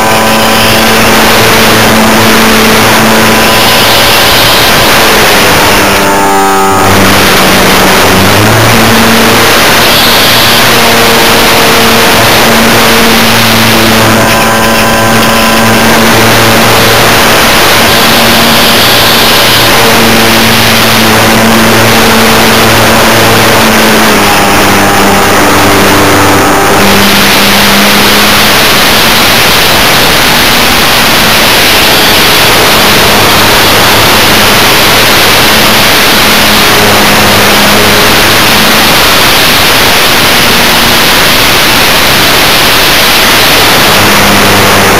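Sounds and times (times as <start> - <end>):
model plane motor buzzing: 0.0 - 44.9
wind rush: 0.0 - 44.9.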